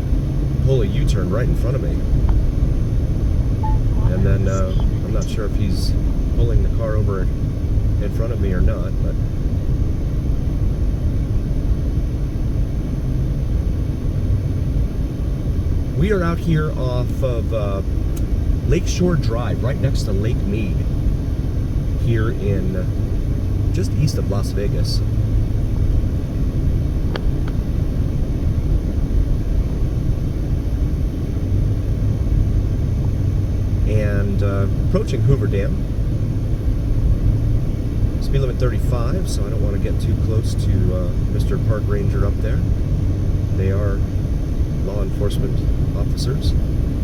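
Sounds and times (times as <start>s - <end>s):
car interior road noise: 0.0s - 47.0s.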